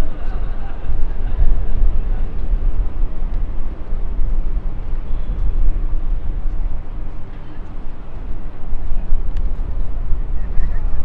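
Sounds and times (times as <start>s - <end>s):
street noise low rumble: 0.0s - 11.0s.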